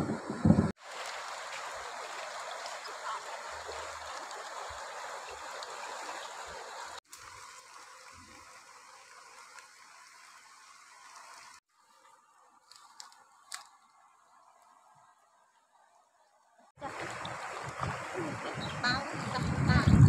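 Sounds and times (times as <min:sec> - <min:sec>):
shallow river flowing: 0:00.0 - 0:20.0.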